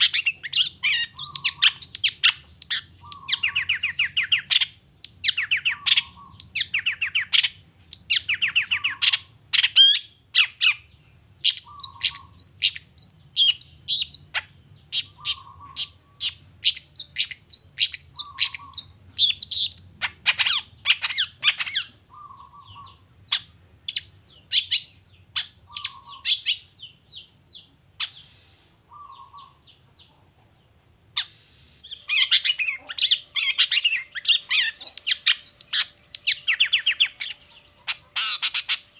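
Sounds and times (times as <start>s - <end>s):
shrike singing chattering song: 0.0s - 30.0s, 31.0s - 38.9s.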